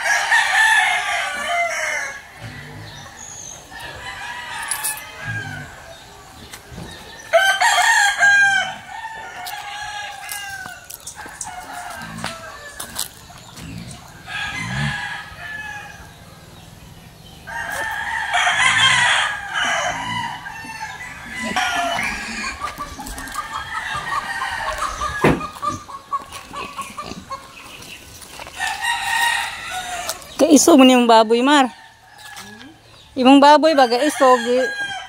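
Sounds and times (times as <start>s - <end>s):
chickens clucking: 0.0s - 35.0s
roosters crowing: 0.0s - 35.0s.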